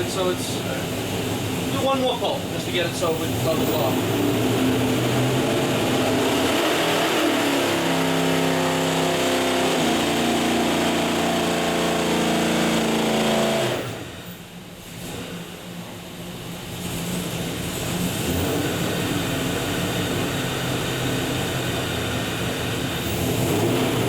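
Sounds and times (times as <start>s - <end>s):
engine at full throttle on dyno: 0.0s - 24.0s.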